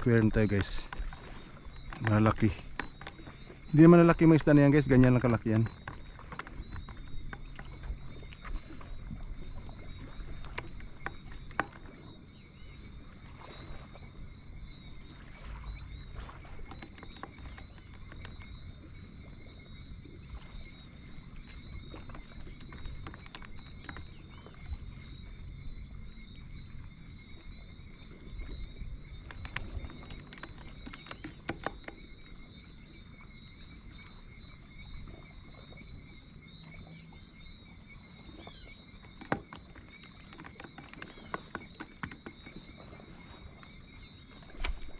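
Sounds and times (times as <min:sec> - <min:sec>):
night insects chirping: 0:00.0 - 0:44.9.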